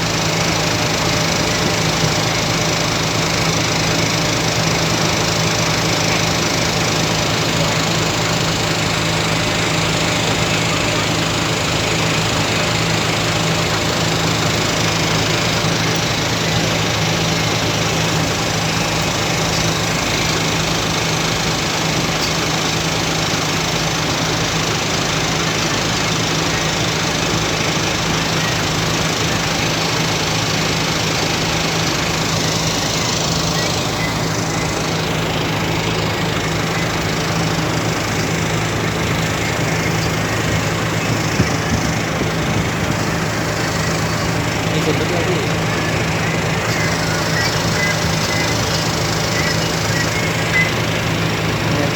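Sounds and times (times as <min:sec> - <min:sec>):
ferry engine running: 0:00.0 - 0:51.9.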